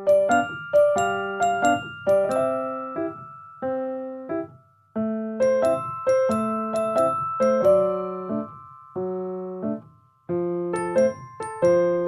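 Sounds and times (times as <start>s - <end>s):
bouncy bell-like keyboard melody: 0.0s - 12.0s.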